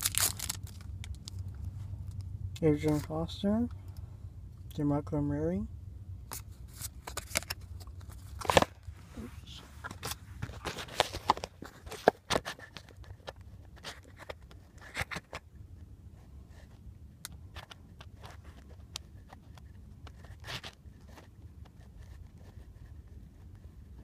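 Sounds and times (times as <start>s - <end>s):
trading cards rustling and scraping: 0.0s - 3.6s, 6.3s - 15.5s, 17.5s - 24.0s
steady low hum: 0.0s - 24.0s.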